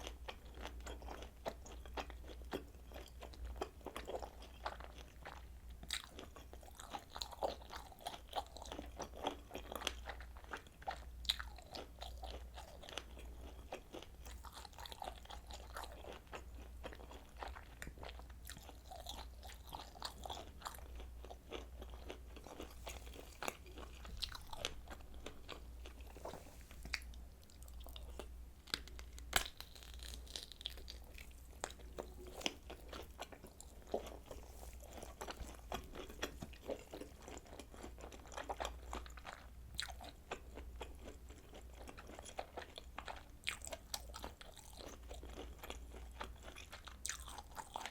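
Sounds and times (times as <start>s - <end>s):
sausage being chewed: 0.0s - 47.9s.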